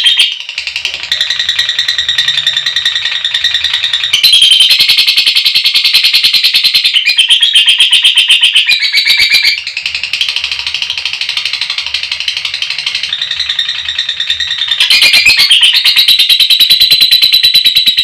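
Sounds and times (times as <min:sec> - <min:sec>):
lovebird shrill chatter: 0:00.0 - 0:18.0.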